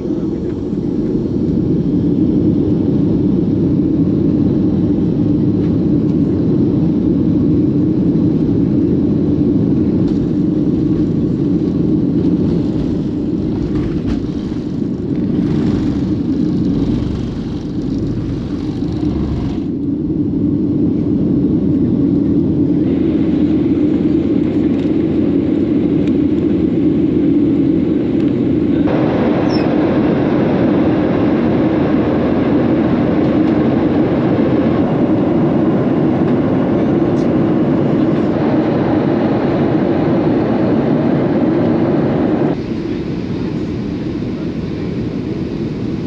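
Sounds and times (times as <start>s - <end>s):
jet engines rumbling: 0.0s - 46.0s.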